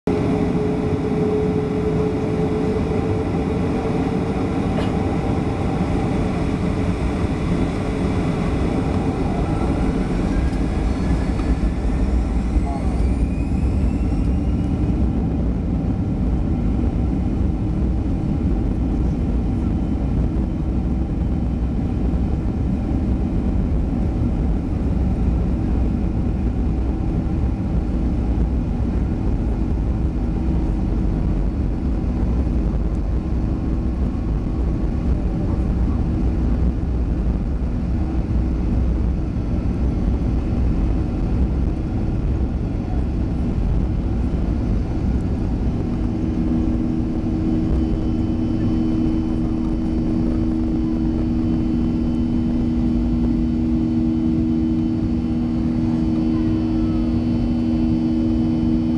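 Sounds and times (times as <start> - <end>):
hum of steady tones: 0.1 - 58.9
jet engine and undercarriage rumble: 0.1 - 58.9.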